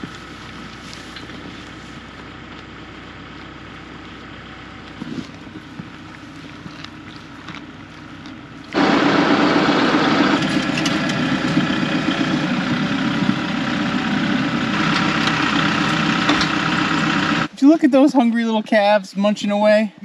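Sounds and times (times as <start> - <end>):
tractor engine running: 0.0 - 17.8.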